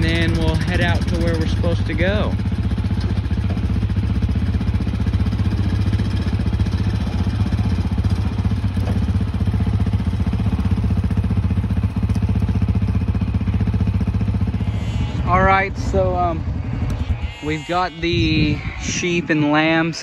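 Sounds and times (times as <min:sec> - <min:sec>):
quad bike engine idling: 0:00.0 - 0:17.4.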